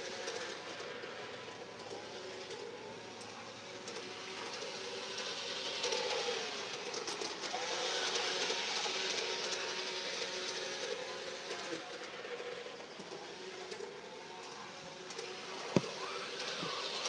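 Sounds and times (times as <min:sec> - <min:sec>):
model train wheels clicking on rails: 0:00.0 - 0:17.0.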